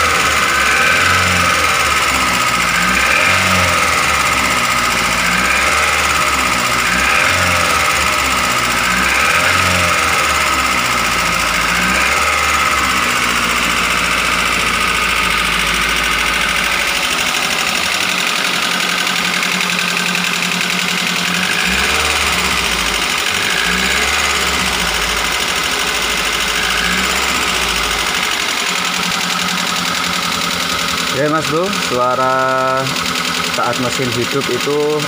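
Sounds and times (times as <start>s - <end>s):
rough engine idling: 0.0s - 35.0s.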